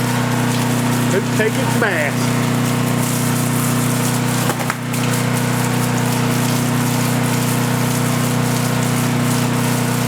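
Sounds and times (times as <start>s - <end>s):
water pump motor humming: 0.0s - 10.0s
water spraying: 0.0s - 10.0s.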